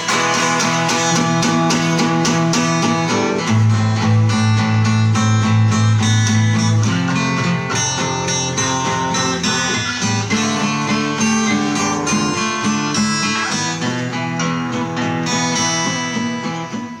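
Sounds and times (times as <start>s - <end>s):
acoustic guitar strumming and picking: 0.0s - 17.0s.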